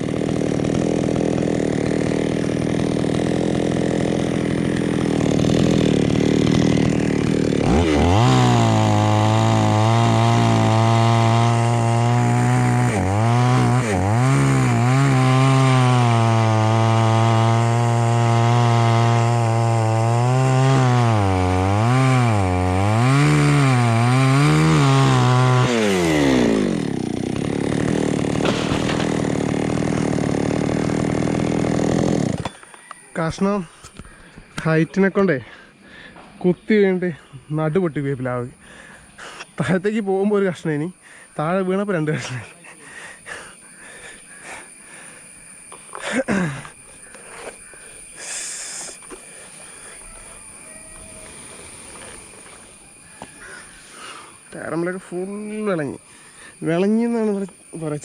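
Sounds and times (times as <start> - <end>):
chainsaw cutting wood: 0.0 - 34.7, 43.0 - 58.0.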